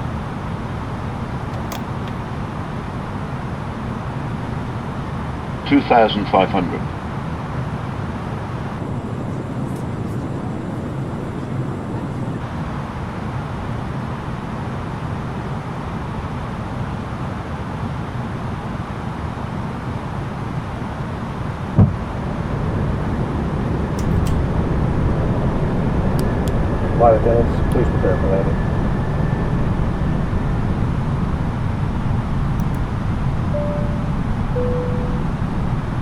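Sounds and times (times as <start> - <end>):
aircraft engines and airflow rumble: 0.0 - 36.0.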